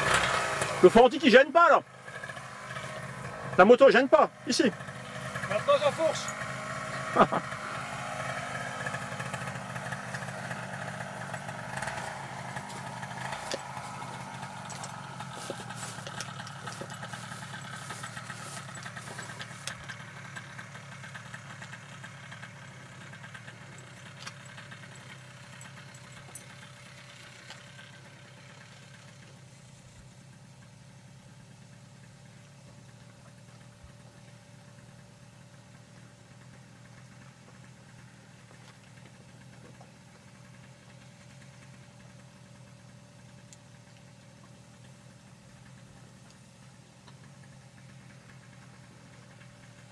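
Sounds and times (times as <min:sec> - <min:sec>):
small engine idling: 0:00.0 - 0:49.9.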